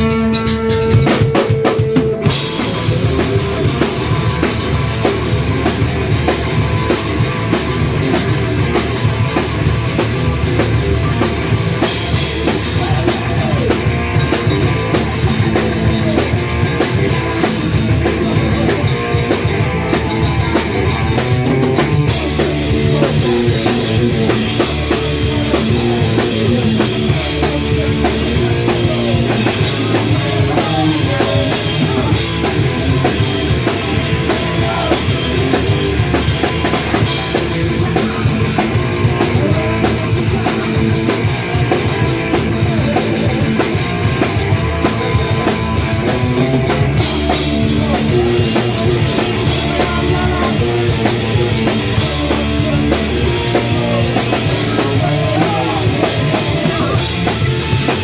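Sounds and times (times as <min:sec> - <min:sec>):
driving drum kit: 0:00.0 - 0:58.0
guitars: 0:00.0 - 0:58.0
punk rock band playing: 0:00.0 - 0:58.0.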